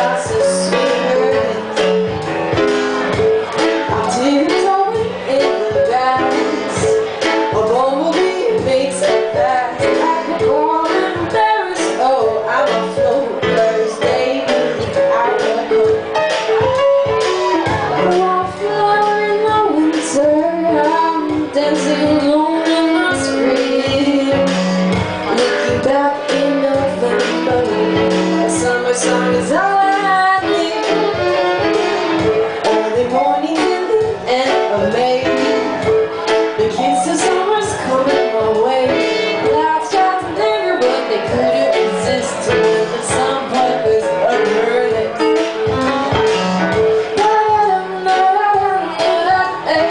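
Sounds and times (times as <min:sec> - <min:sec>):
woman singing into microphone: 0:00.0 - 0:02.6, 0:03.6 - 0:49.9
keyboard: 0:00.0 - 0:49.9.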